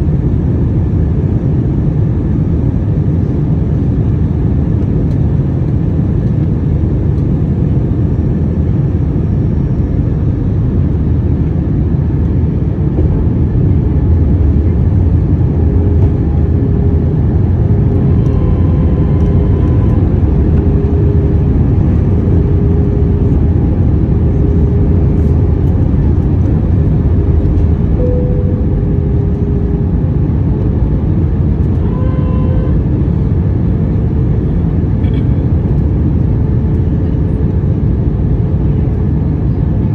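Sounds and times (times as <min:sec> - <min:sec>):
airliner cabin engine rumble: 0:00.0 - 0:39.9
faint hums: 0:00.0 - 0:39.9.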